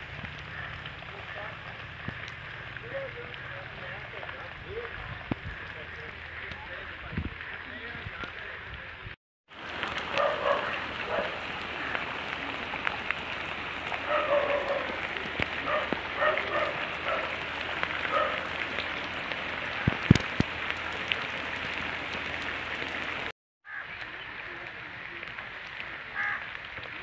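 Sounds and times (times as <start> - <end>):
distant calls: 0.0 - 8.7, 9.6 - 27.0
rain pattering on ground: 0.0 - 27.0.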